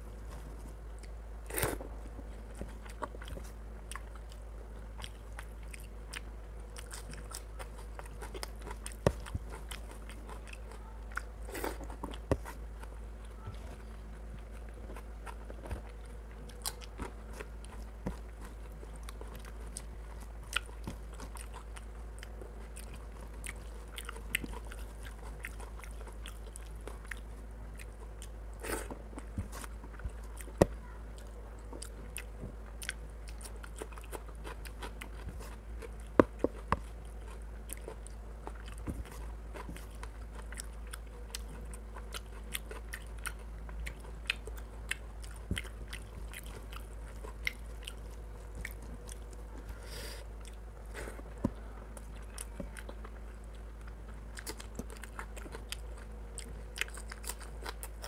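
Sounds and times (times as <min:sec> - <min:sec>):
wet chewing sounds: 0:00.0 - 0:58.0.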